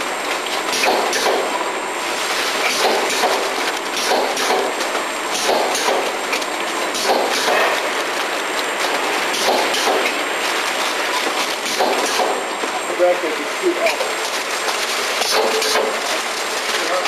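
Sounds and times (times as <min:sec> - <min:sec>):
cartoning machine clattering: 0:00.0 - 0:17.0.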